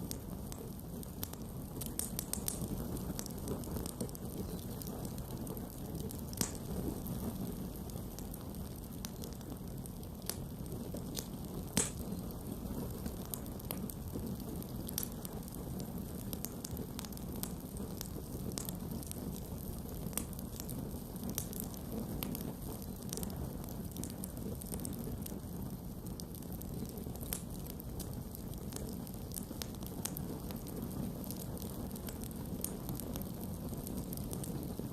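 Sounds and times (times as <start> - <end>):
campfire burning: 0.0 - 34.9
wood crackles and pops: 0.0 - 34.9.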